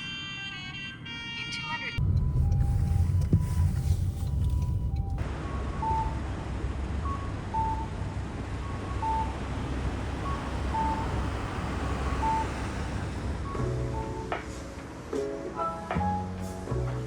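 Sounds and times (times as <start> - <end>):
low vehicle rumble: 2.0 - 17.0.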